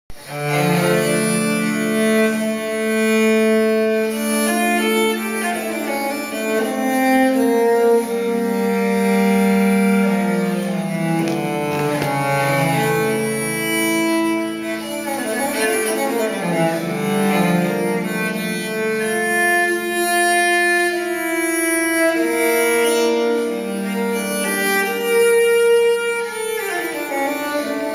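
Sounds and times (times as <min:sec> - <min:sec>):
bowed strings music: 0:00.1 - 0:27.9.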